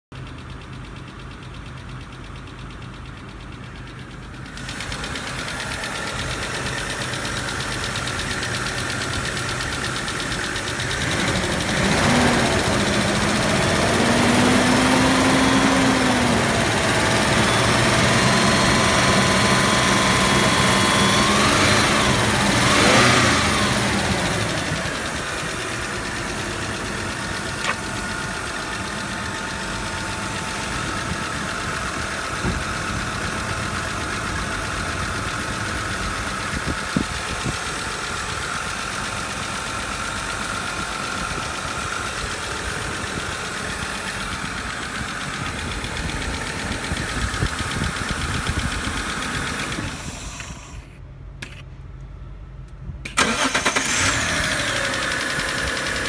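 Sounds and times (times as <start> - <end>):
car engine idling and revving: 0.1 - 56.0.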